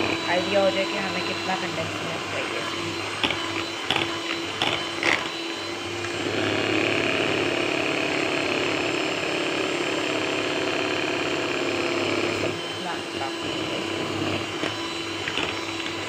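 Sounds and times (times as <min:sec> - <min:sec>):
electric hand mixer whipping cream: 0:00.0 - 0:16.0.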